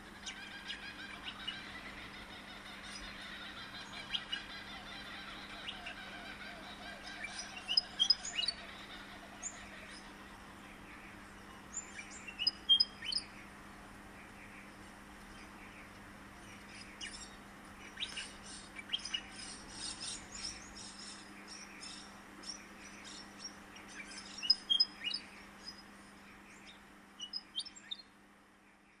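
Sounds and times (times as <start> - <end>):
birds chirping and trilling: 0.0 - 29.0
faint low hum: 0.0 - 29.0.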